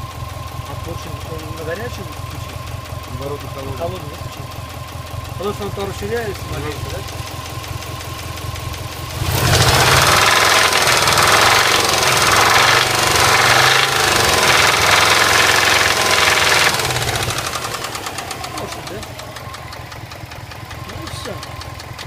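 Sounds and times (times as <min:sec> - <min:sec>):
car engine knocking: 0:00.0 - 0:22.0.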